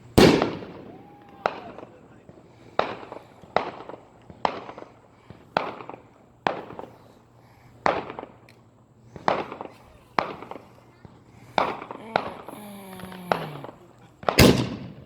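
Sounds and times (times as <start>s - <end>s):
fireworks bangs with echo: 0.0s - 7.0s, 7.8s - 8.4s, 9.1s - 15.0s.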